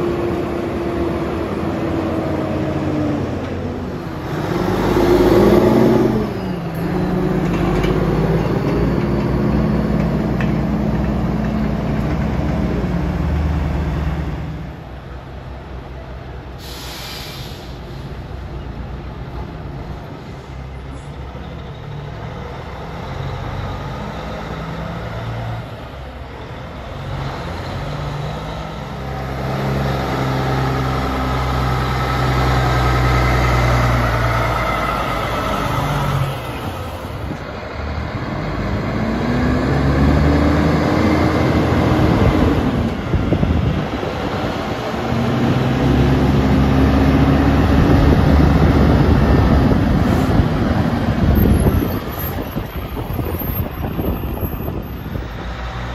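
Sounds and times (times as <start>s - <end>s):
diesel truck engine revving: 0.0s - 14.9s, 21.3s - 55.9s.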